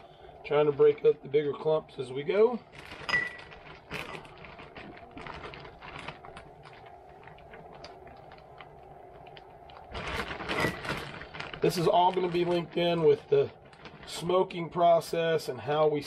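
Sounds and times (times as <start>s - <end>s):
faint steady hum: 0.0s - 16.0s
plastic bag crinkling: 2.2s - 16.0s.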